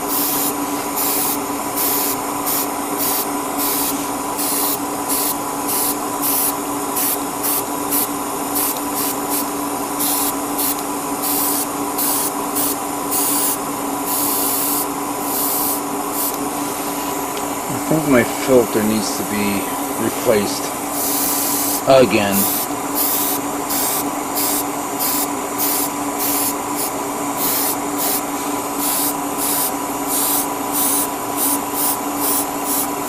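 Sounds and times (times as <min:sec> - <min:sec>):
airbrush spraying hiss: 0:00.0 - 0:17.1, 0:20.9 - 0:33.0
steady motor hum: 0:00.0 - 0:33.0.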